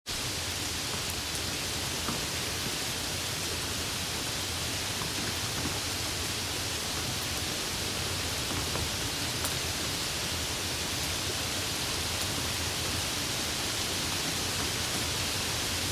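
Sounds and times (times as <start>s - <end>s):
steady rain hiss: 0.1s - 15.9s.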